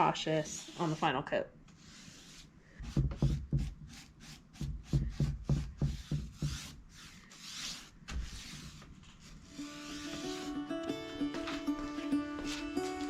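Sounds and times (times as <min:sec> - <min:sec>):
paintbrush strokes on wood: 0:00.4 - 0:01.2, 0:01.8 - 0:13.0.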